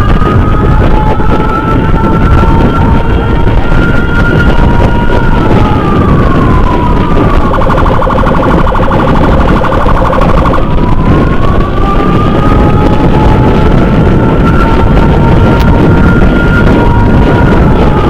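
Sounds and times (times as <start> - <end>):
motorcycle electronic siren: 0.0 - 18.0
wind and road rush: 0.0 - 18.0.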